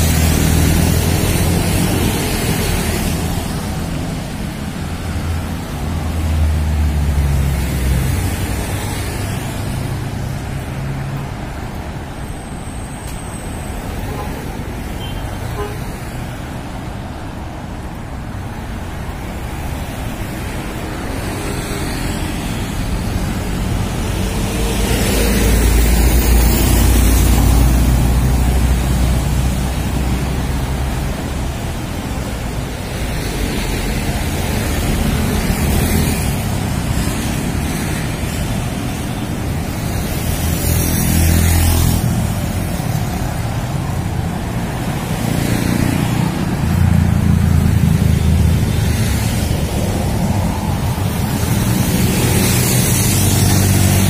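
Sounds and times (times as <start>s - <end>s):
cars passing: 0.0s - 54.0s
low traffic rumble: 0.0s - 54.0s.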